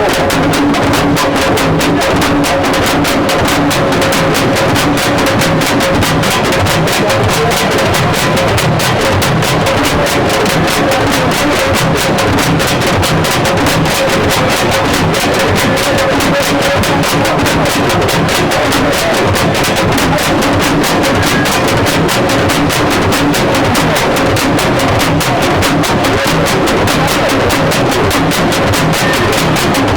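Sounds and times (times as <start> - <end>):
music with fast percussive beat: 0.0 - 29.9.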